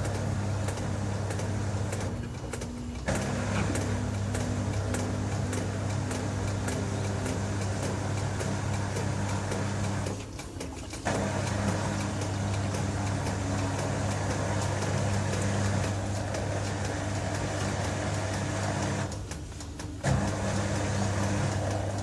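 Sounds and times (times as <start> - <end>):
drum churning wet laundry: 0.0 - 22.0
washing machine motor humming: 0.0 - 22.0.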